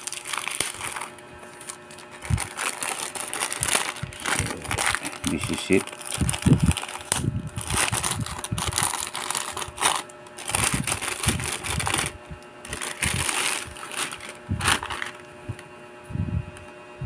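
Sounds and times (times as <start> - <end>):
plastic and bubble wrap crinkling: 0.0 - 15.3.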